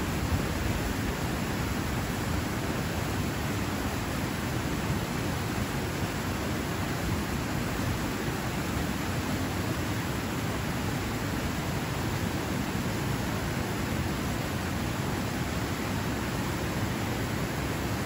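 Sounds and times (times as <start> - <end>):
waterfall rushing over rocks: 0.0 - 18.0.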